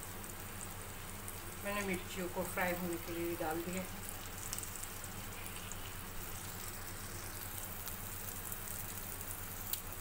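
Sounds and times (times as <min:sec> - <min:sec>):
chillies sizzling in hot oil: 0:00.0 - 0:10.0.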